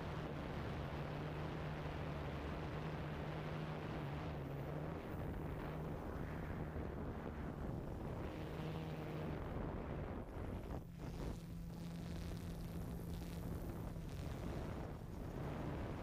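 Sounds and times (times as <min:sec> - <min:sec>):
low even hum: 0:00.0 - 0:16.0.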